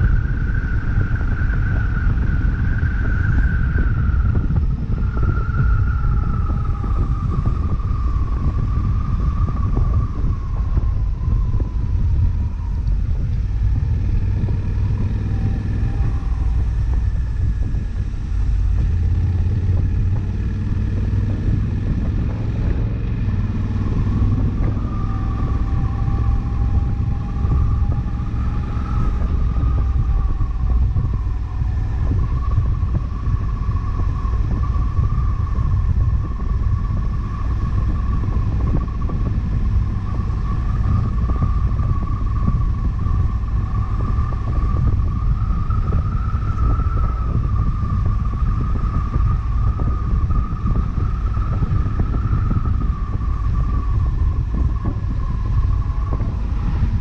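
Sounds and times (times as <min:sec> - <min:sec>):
constant low rumble: 0:00.0 - 0:57.0
motorcycle engine cruising: 0:00.0 - 0:57.0.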